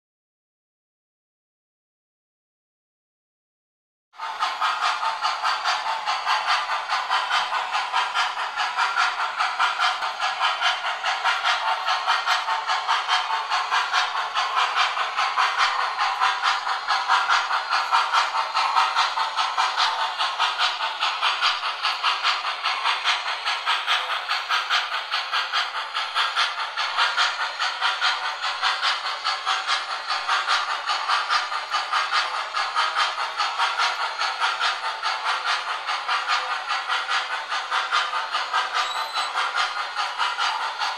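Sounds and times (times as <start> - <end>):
model steam locomotive chuffing: 4.2 - 40.9.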